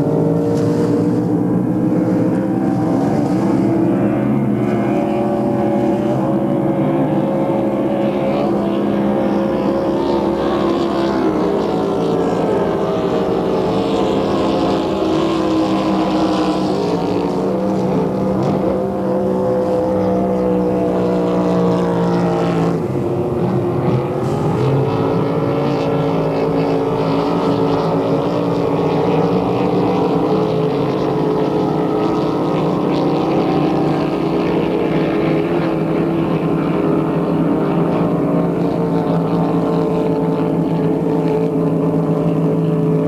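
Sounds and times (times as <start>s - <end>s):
powerboat engine running: 0.0s - 43.0s.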